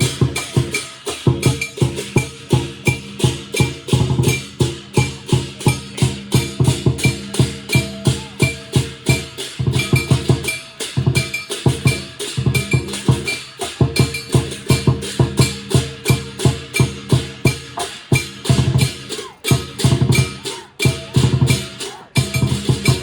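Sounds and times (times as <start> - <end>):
large drum beating: 0.0 - 23.0
ringing metal percussion: 0.0 - 23.0.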